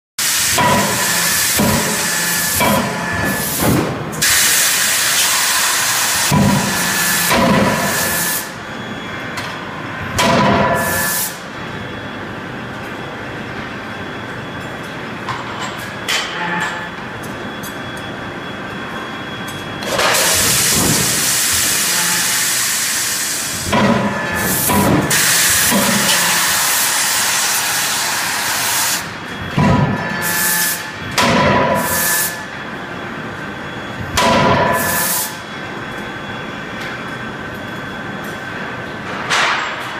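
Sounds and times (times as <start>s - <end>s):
forging machinery hum: 0.2s - 39.9s.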